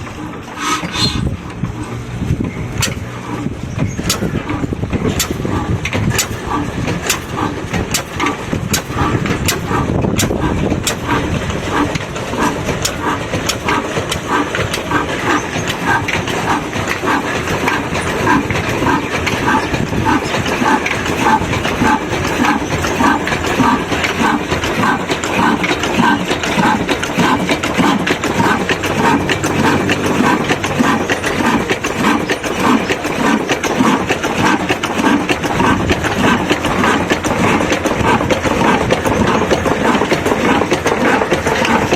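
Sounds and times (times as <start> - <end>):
engine chugging: 0.0 - 41.9.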